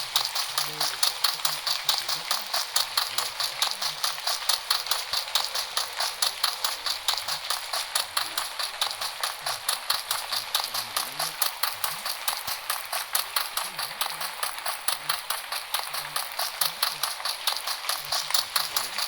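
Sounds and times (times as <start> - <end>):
rapid sharp clicks: 0.0 - 19.0.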